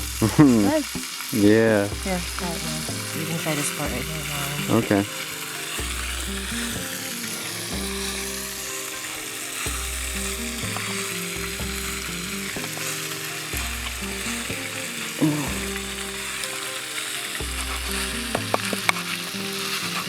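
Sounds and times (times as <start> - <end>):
background music with bass line: 0.0 - 16.7, 17.4 - 20.0
hen frying in a skillet: 0.0 - 20.0.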